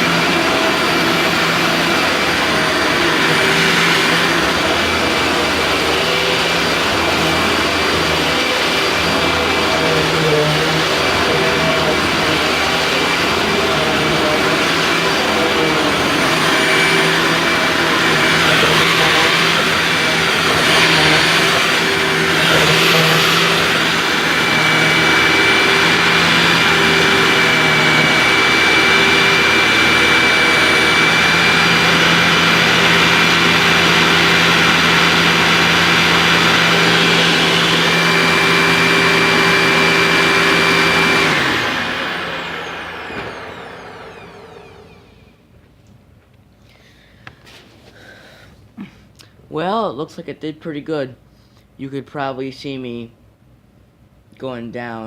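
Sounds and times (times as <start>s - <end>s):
vacuum cleaner running on a rug: 0.0s - 45.4s.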